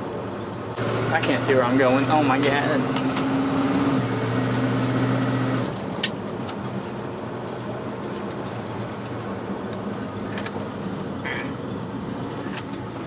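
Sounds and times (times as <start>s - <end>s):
road noise inside car: 0.0s - 13.0s
car engine: 0.1s - 13.0s.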